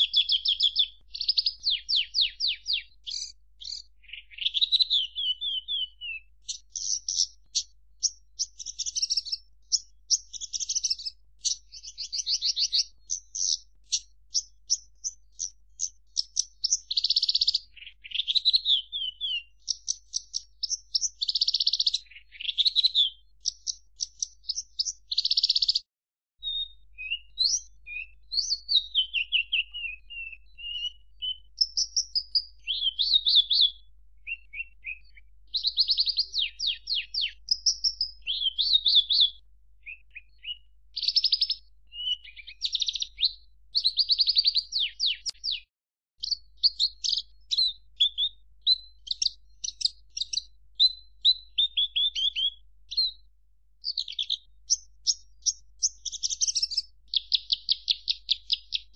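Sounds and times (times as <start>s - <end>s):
lark singing trills and whistles: 0.0s - 58.9s.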